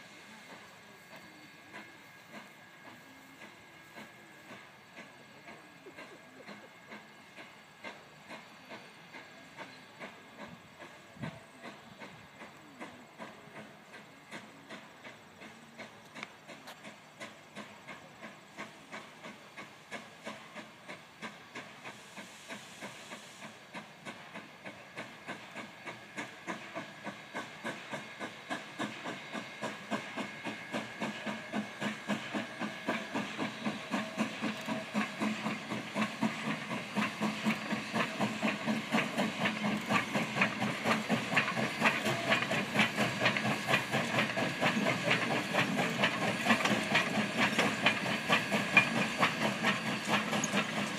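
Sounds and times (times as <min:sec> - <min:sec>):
steam hissing: 0:00.0 - 0:50.9
steam locomotive chuffing: 0:00.0 - 0:50.9.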